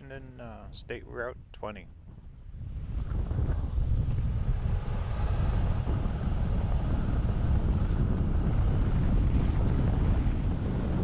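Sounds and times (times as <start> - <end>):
vehicle road noise rumble: 1.8 - 11.0
wind hiss on microphone: 2.1 - 11.0.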